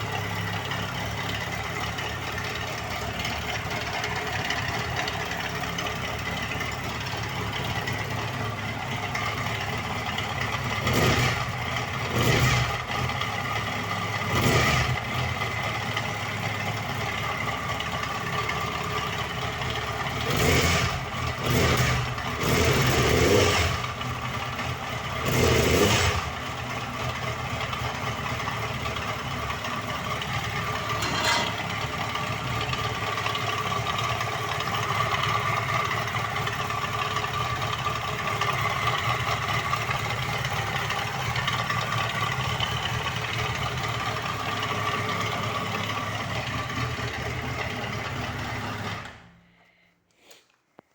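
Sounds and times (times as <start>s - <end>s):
motorcycle engine idling and revving: 0.0s - 49.6s.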